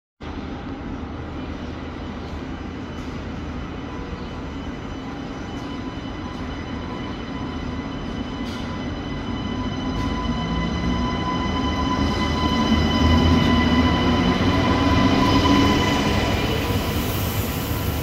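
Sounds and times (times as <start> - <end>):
train rumbling: 0.2 - 18.0.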